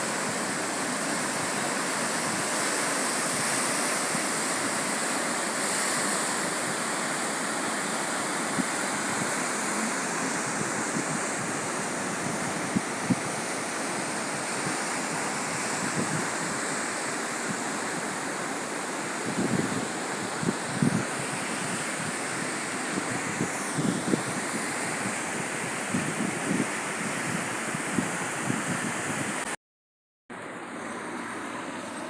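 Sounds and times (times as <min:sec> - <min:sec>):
sea surf breaking on shore: 0:00.0 - 0:29.6.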